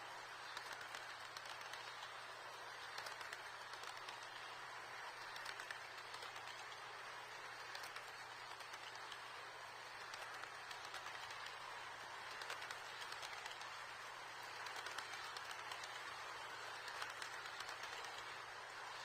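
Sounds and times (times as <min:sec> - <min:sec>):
model train whirring and clicking: 0:00.0 - 0:19.0.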